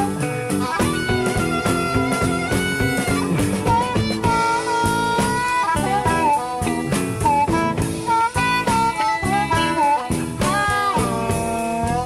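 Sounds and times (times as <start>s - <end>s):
blues band with drums: 0.0s - 12.0s
electric blues guitar solo: 0.0s - 12.0s.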